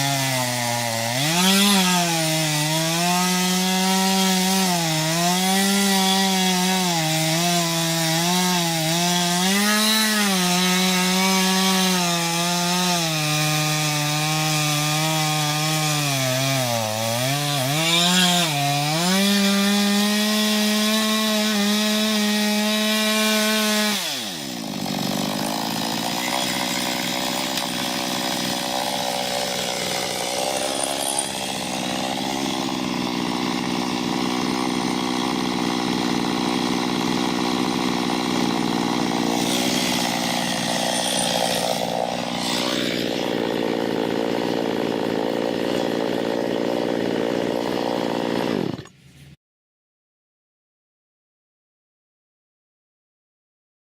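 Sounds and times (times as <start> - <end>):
chainsaw cutting wood: 0.0 - 49.4.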